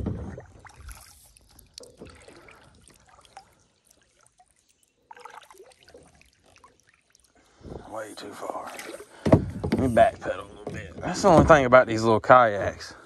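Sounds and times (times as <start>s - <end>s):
water lapping around kayak: 0.0s - 11.5s.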